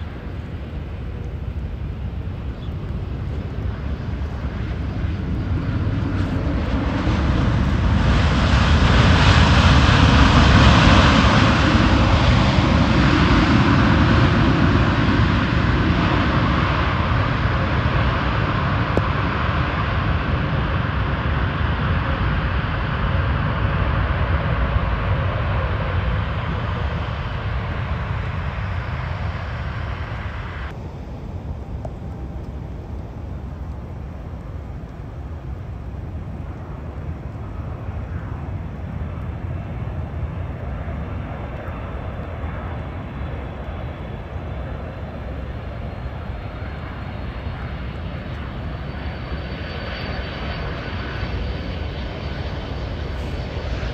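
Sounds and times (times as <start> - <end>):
jet engines reverse thrust: 0.0 - 53.9.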